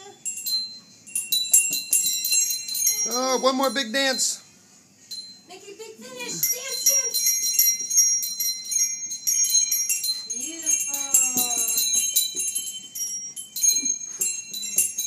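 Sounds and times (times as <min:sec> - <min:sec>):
jingle bells jangling: 0:00.0 - 0:15.0.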